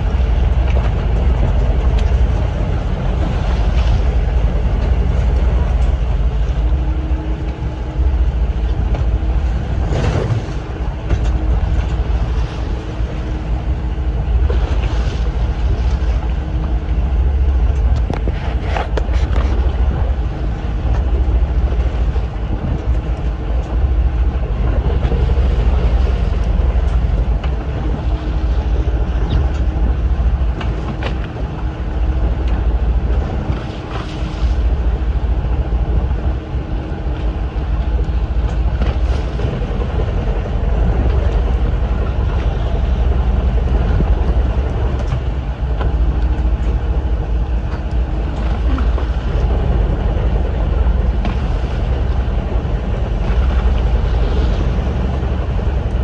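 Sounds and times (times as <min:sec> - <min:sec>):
boat engine rumbling: 0:00.0 - 0:56.0
waves against hull: 0:00.0 - 0:56.0
wind buffeting microphone: 0:00.0 - 0:56.0.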